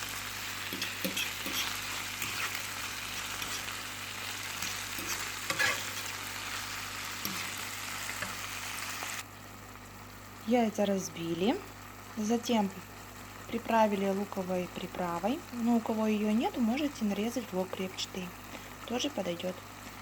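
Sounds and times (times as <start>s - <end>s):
fat sizzling in frying pan: 0.0s - 20.0s.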